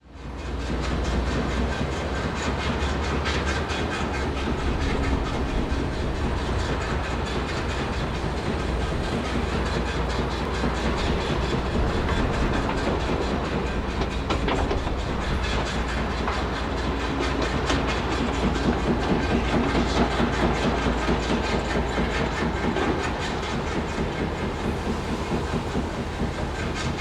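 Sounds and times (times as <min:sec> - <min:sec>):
city background noise: 0:00.0 - 0:27.0
industrial machinery rumbling: 0:00.2 - 0:27.0.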